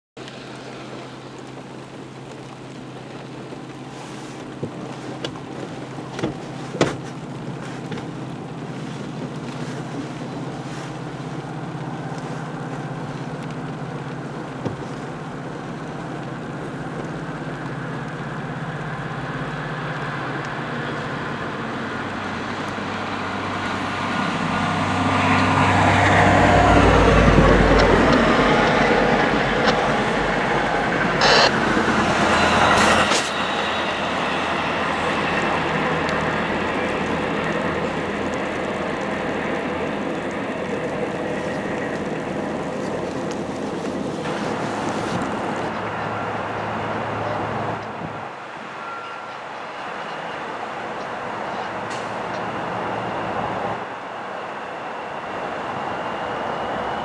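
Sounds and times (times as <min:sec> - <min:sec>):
deep low drone: 0:00.2 - 0:48.3
train rumble: 0:00.2 - 0:57.0.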